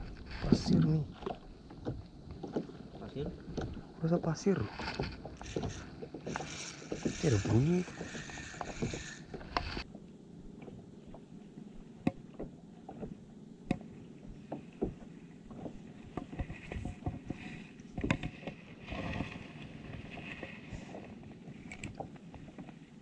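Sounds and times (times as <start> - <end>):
water lapping against kayak hull: 0.0 - 23.0.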